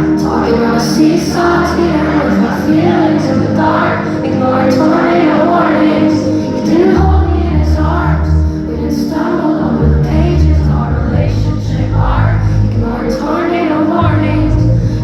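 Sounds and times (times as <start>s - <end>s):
crowd singing along: 0.0s - 15.0s
deep sustained bass notes: 0.0s - 15.0s
female lead vocal: 0.0s - 15.0s
live pop song: 0.0s - 15.0s.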